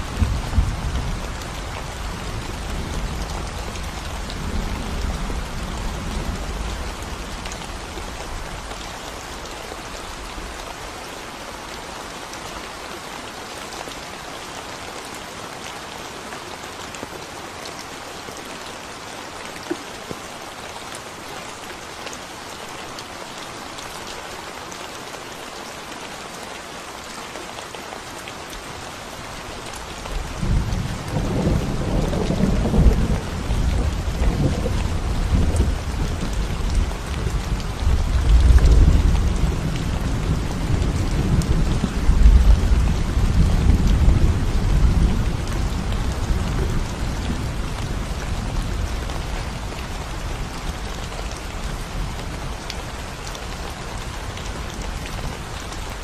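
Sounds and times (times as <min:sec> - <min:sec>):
rain on concrete: 0:00.0 - 0:56.0.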